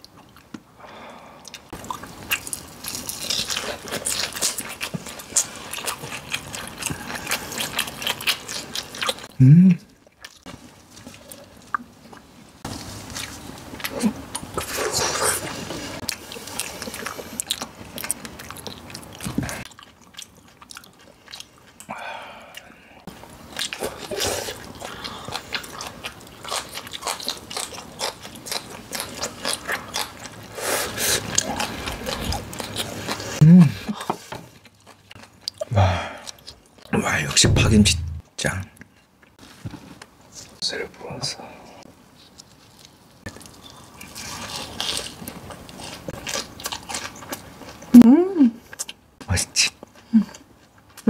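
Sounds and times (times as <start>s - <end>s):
person chewing crunchy food: 1.2s - 36.9s, 41.8s - 48.0s, 48.6s - 49.0s.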